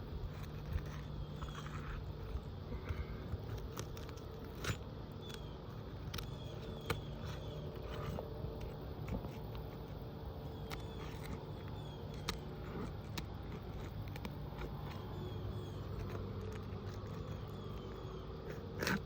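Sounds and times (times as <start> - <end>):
steady low hum: 0.0 - 19.0
clicks and scrapes on shingles: 0.1 - 19.0.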